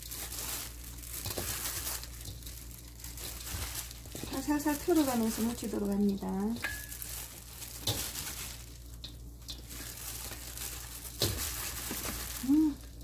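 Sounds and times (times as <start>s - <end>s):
gloves rustling leaves in bowl: 0.0s - 13.0s.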